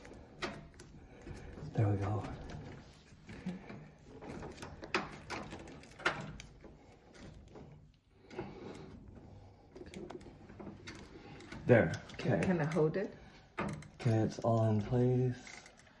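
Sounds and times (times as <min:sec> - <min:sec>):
plastic parts clicking and knocking: 0:00.0 - 0:16.0.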